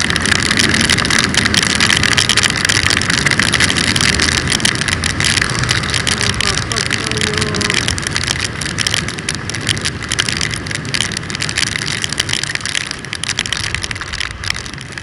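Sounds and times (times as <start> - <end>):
motorcycle engine rumble: 0.0 - 15.0
raindrops ticking on microphone: 0.0 - 15.0
wind and spray hiss: 0.0 - 15.0.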